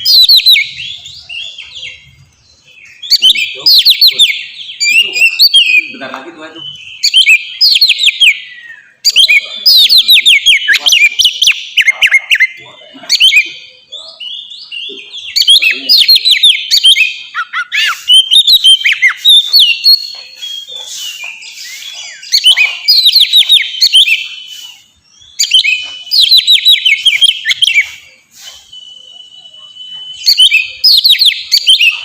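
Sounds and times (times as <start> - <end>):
magpie-robin singing whistled notes: 0.0 - 32.0.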